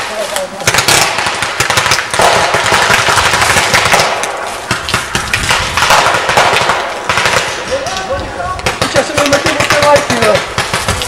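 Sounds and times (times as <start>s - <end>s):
paintball guns firing: 0.0s - 11.0s.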